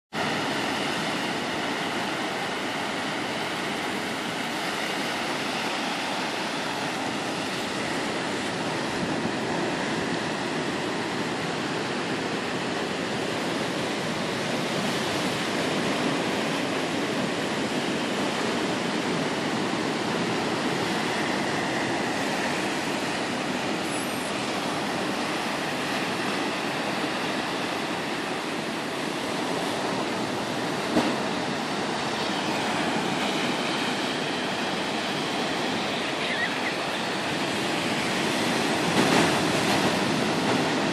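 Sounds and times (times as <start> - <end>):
ocean surf washing over rocks: 0.2 - 40.9.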